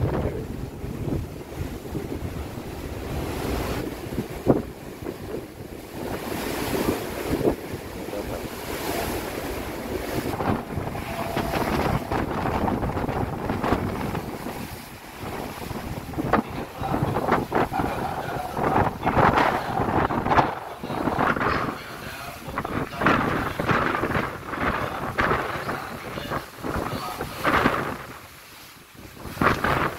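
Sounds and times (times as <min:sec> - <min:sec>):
sea waves: 0:00.0 - 0:29.9
wind buffeting microphone: 0:00.0 - 0:29.9.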